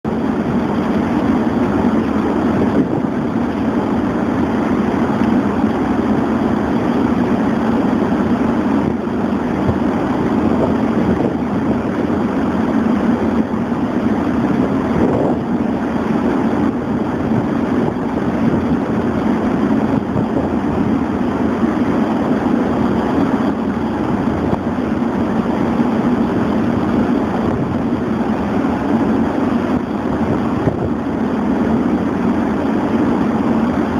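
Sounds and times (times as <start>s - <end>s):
boat engines droning: 0.0s - 33.9s
rushing water: 0.1s - 33.9s.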